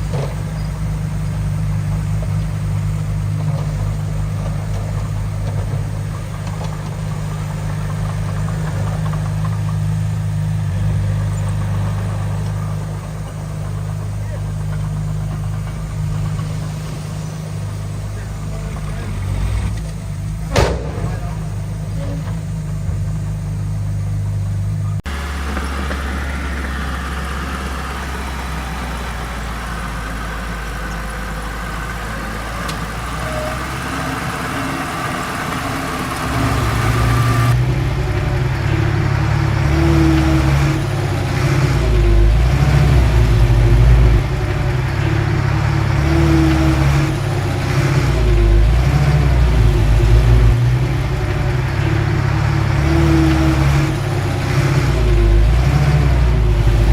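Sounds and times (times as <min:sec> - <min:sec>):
diesel machinery engines working: 0:00.0 - 0:56.9.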